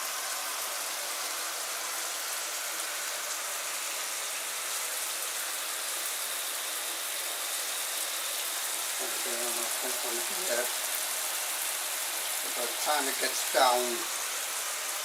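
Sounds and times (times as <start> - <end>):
shower spray hissing: 0.0 - 15.0.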